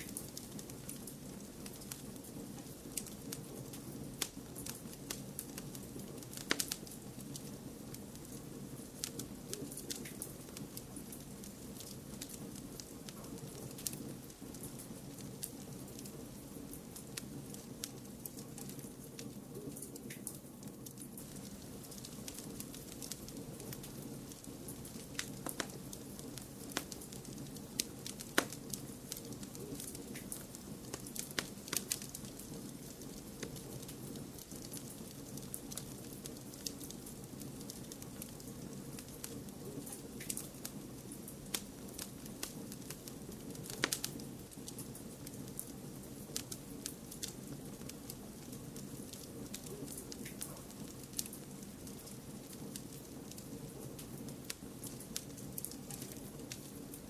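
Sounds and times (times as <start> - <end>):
low white noise hiss: 0.0 - 57.0
wood fire crackling: 0.0 - 57.0.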